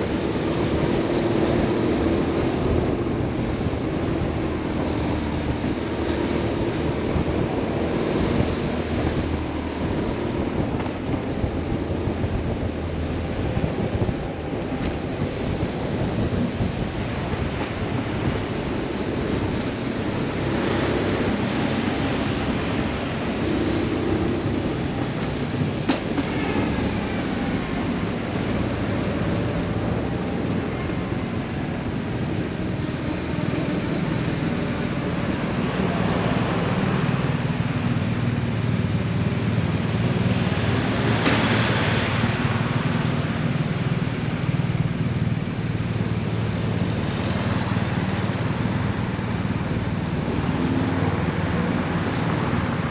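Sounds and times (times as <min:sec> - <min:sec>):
road noise: 0:00.0 - 0:52.9.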